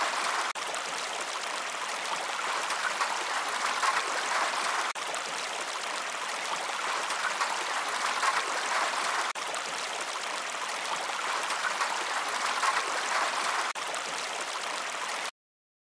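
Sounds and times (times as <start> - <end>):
running water rushing: 0.0 - 15.3.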